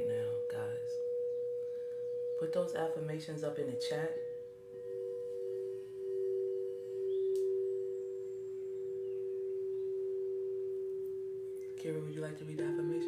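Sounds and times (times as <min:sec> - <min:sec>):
singing bowl ringing: 0:00.0 - 0:13.0.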